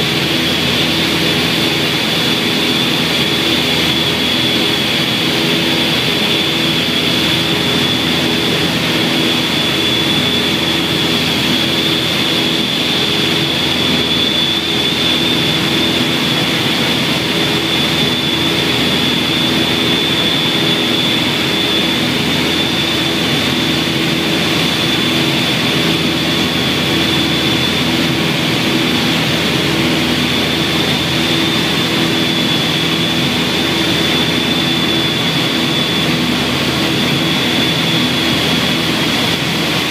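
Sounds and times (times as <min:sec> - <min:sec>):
aircraft engines droning: 0:00.0 - 0:39.9
high-pitched whine: 0:00.0 - 0:39.9.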